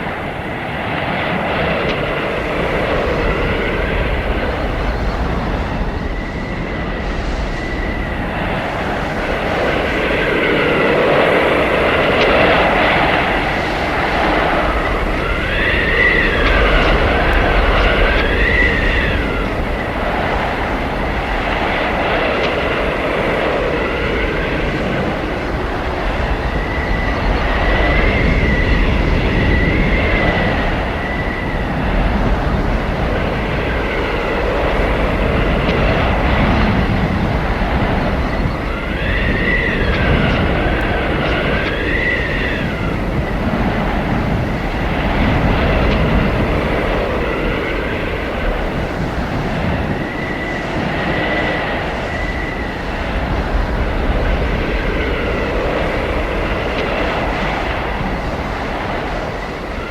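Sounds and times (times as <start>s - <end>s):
blizzard wind rumbling: 0.0s - 59.9s
wind whistling howls: 0.0s - 59.9s.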